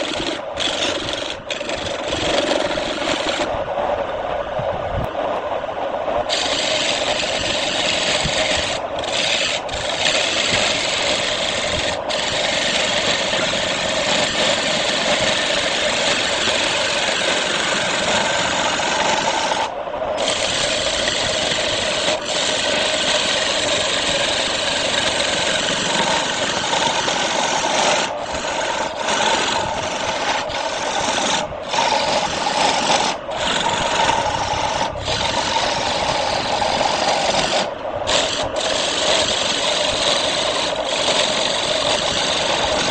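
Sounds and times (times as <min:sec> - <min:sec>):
tool cutting wood on lathe: 0:00.0 - 0:03.6, 0:06.3 - 0:42.9
lathe motor hum: 0:00.0 - 0:42.9.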